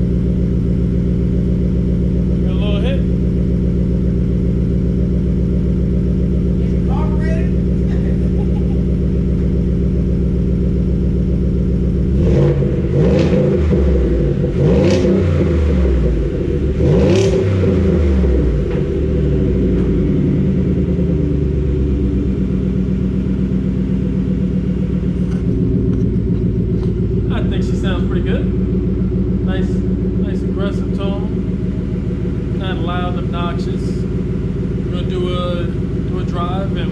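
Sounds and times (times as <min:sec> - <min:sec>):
truck engine idling and revving: 0:00.0 - 0:36.9.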